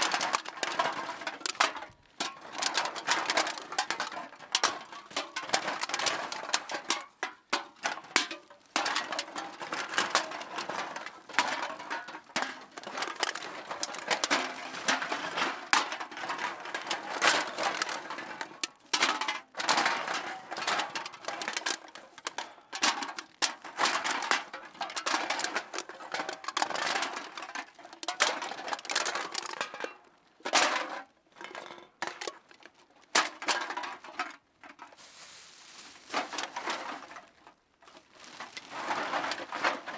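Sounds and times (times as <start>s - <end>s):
metal cans clattering into a bag: 0.0s - 39.9s.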